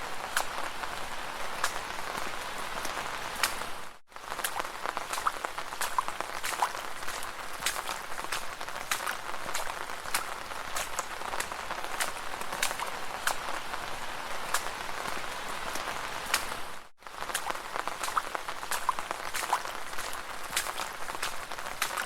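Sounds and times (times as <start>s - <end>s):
footsteps splashing through puddles: 0.0s - 22.0s.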